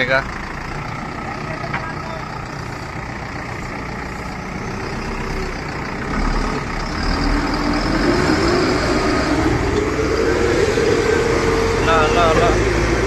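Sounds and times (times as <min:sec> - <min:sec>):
heavy diesel engines under load: 0:00.0 - 0:13.0.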